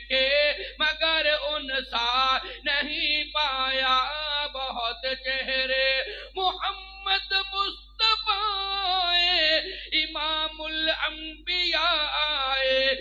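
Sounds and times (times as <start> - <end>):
man singing through loudspeakers: 0.0 - 13.0.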